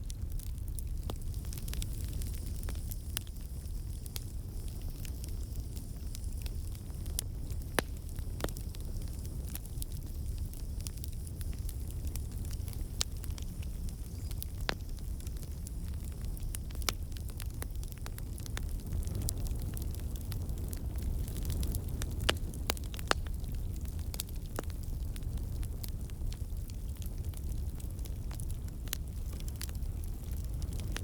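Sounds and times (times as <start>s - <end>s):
campfire flames roaring: 0.0s - 31.0s
fire crackles and pops: 0.0s - 31.0s.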